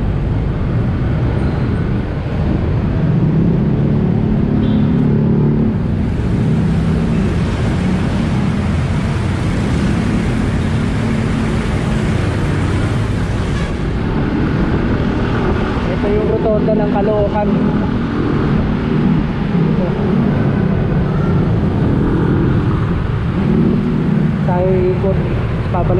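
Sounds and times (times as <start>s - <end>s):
road and wind noise: 0.0s - 25.9s.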